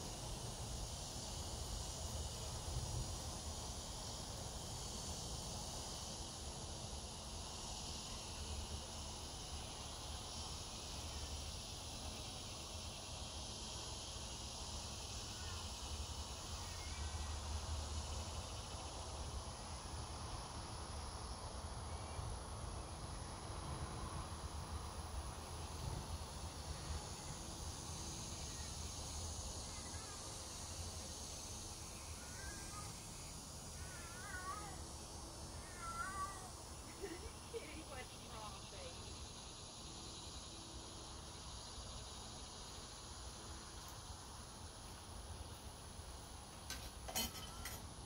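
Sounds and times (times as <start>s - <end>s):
insects chorus: 0.0s - 48.0s.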